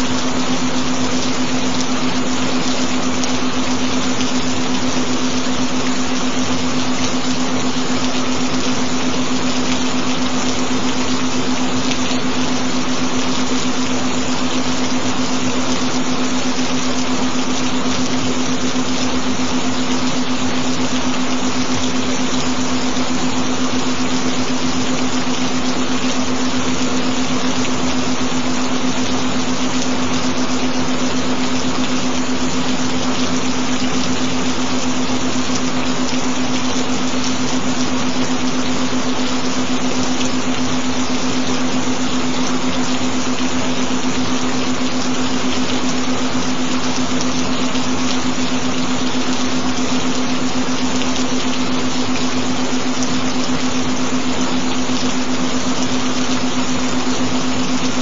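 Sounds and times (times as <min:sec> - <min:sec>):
constant humming tone: 0:00.0 - 0:58.0
gentle rain hissing: 0:00.0 - 0:58.0.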